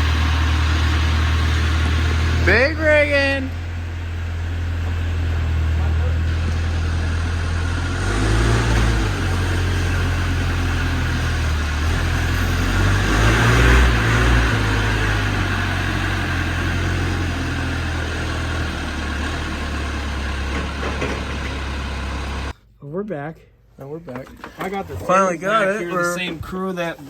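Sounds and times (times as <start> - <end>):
vehicle engine running: 0.0 - 22.5.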